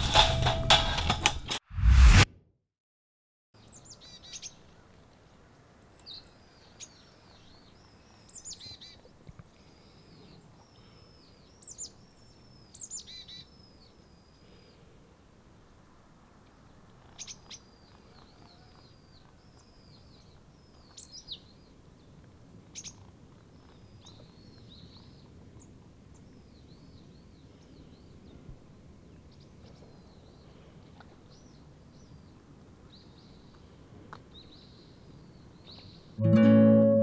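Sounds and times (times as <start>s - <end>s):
small birds chirping: 3.6s - 15.0s, 16.5s - 36.2s.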